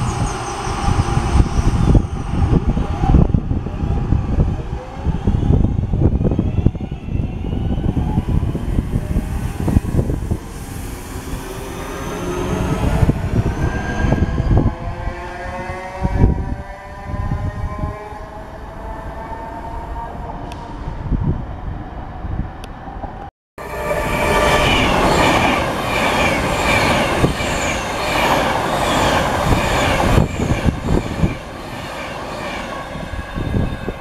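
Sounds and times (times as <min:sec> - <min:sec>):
train rumble: 0:00.0 - 0:34.0.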